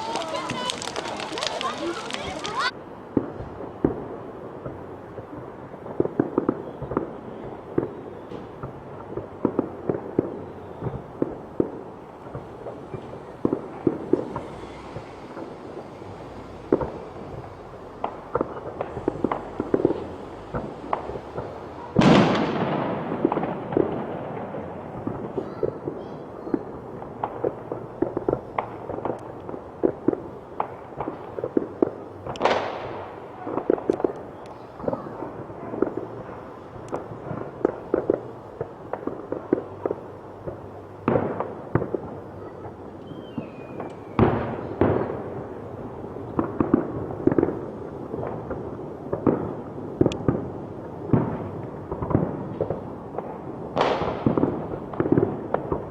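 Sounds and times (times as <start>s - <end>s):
fireworks popping and crackling: 0.0s - 55.9s
loud firework bangs: 0.0s - 55.9s.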